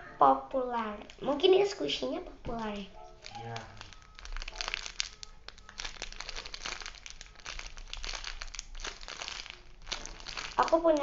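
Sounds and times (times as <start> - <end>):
plastic wrapping crinkling: 0.8 - 11.0.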